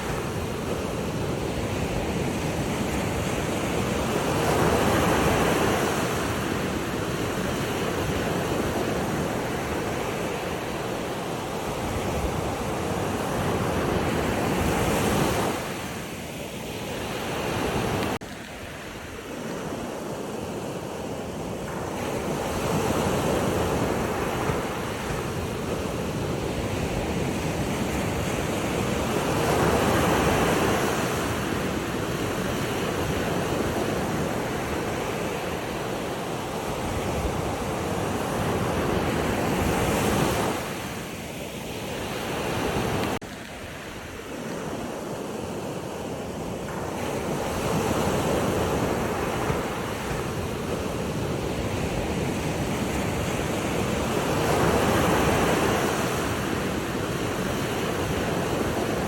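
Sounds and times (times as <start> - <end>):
ocean surf washing in: 0.0 - 59.0
wind on microphone: 0.0 - 59.0.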